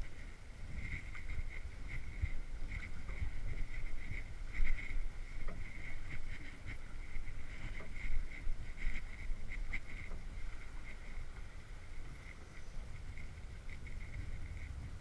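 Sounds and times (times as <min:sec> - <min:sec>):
water rushing along a hull: 0:00.0 - 0:15.0
wind rumble on microphone: 0:00.0 - 0:15.0.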